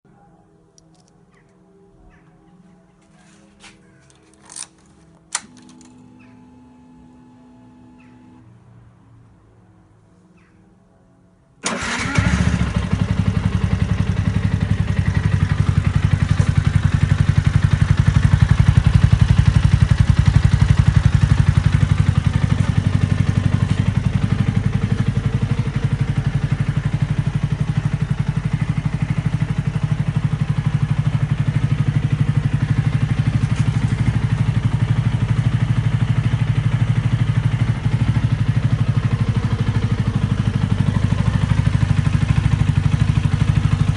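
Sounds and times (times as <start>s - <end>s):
motorcycle engine starting and idling: 4.0s - 8.5s, 11.6s - 43.9s.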